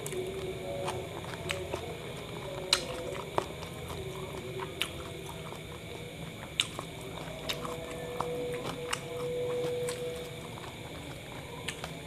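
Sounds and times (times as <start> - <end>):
close chewing with mouth clicks: 0.0 - 12.0.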